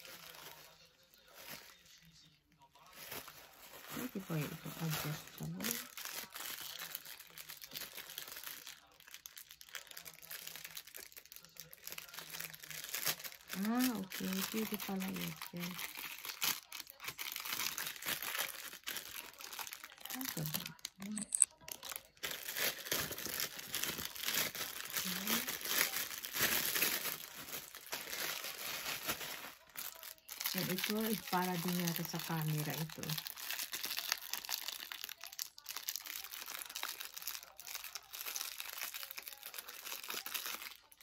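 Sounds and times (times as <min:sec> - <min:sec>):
packaging crinkling: 0:00.0 - 0:01.8, 0:02.7 - 0:41.0.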